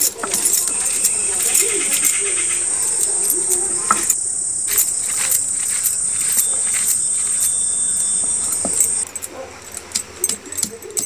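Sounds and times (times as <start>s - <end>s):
high-pitched insect drone: 0.0s - 9.2s.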